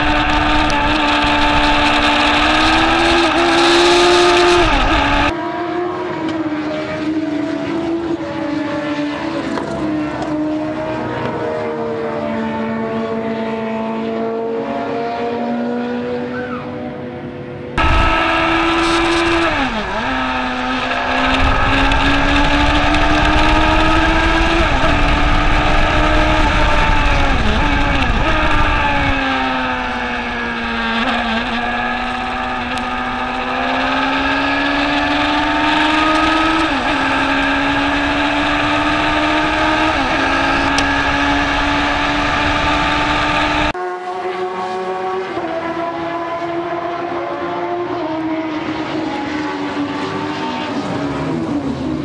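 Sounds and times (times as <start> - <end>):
race car engine revving: 0.0 - 16.5, 17.8 - 52.0.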